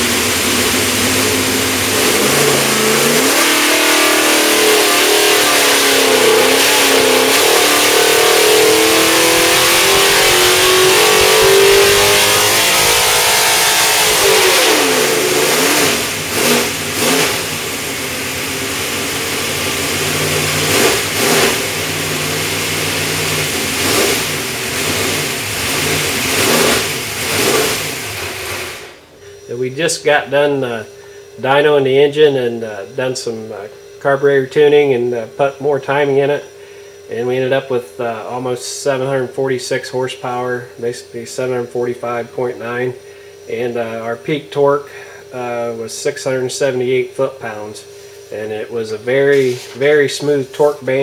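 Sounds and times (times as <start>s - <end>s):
racing engine revving on dyno: 0.0s - 51.0s.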